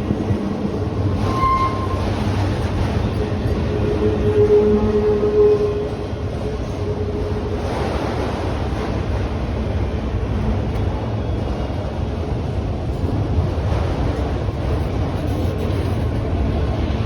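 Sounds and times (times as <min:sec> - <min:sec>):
rumble of steel wheels on rail: 0:00.0 - 0:17.0.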